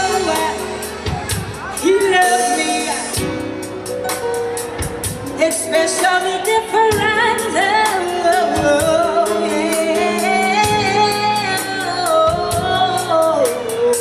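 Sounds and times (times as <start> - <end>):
drums and cymbals: 0.0 - 14.0.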